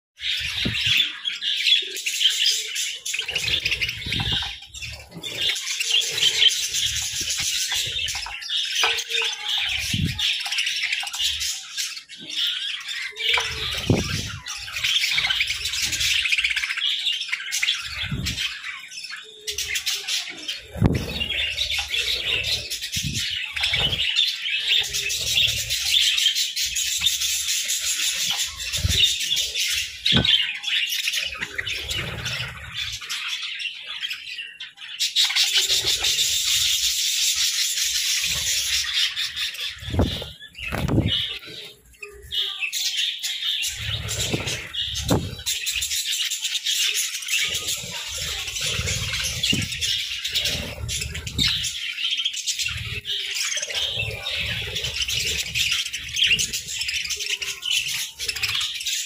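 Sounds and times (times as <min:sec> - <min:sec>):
budgerigars chattering and warbling: 0:00.2 - 0:59.0.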